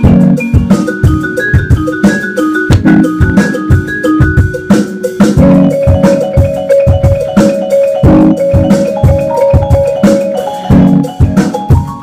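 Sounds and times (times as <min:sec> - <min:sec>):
electronic keyboard music: 0:00.0 - 0:12.0
steady drum beat: 0:00.0 - 0:12.0.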